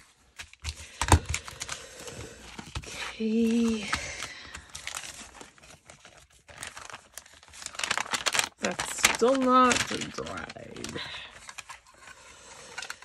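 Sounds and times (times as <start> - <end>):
paper pages rustling: 0.0 - 13.0.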